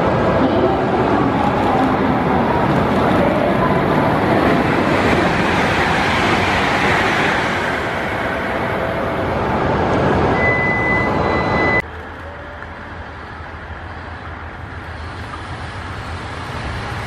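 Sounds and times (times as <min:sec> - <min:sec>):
high-speed train rushing past: 0:00.0 - 0:17.0.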